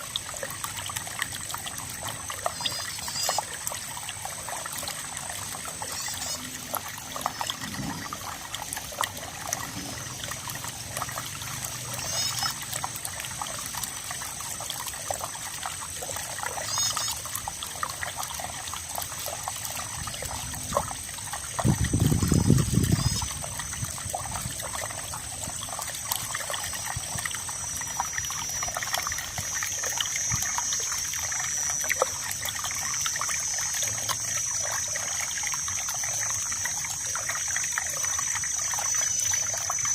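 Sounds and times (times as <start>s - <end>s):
water dripping: 0.0s - 39.9s
water trickling and splashing: 0.0s - 39.9s.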